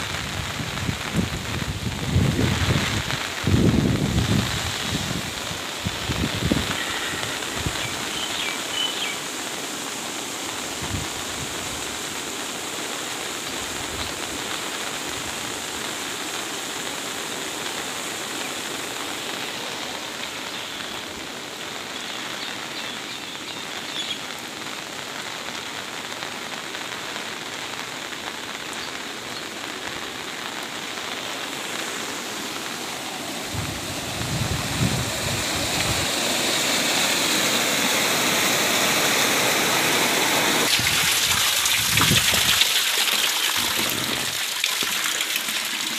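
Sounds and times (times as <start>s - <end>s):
floodwater stream flowing fast: 0.0s - 22.8s, 29.5s - 45.9s
heavy rain: 0.0s - 45.9s.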